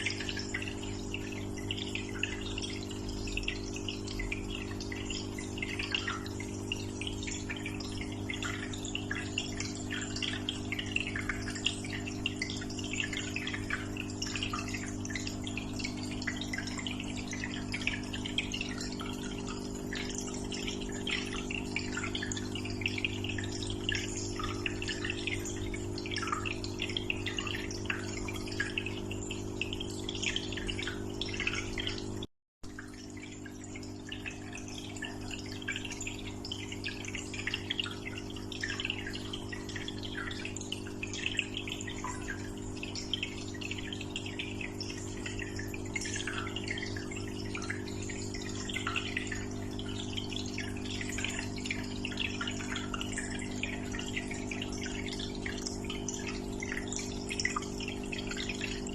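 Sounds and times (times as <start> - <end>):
pump humming: 0.0 - 58.9
water trickling and bubbling: 0.0 - 58.9.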